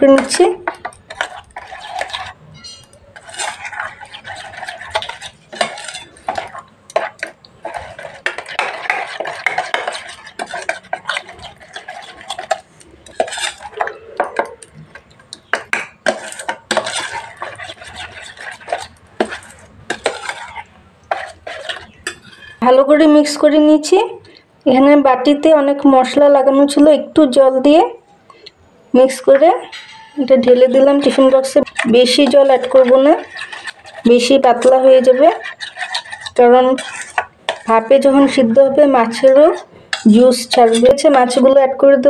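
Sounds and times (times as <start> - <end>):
spoon scraping a steel box: 0.0 - 22.7, 29.6 - 41.4.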